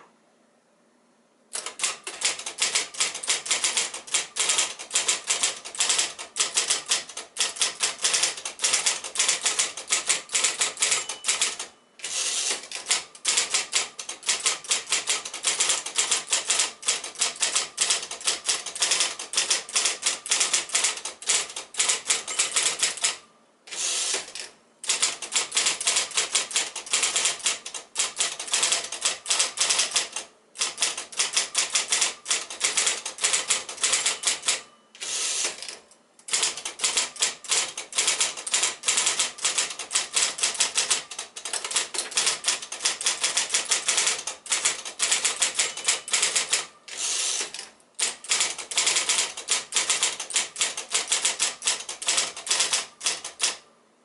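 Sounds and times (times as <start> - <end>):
typewriter keystrokes clattering: 1.6 - 23.2, 24.1 - 34.7, 35.4 - 46.7, 47.4 - 53.6.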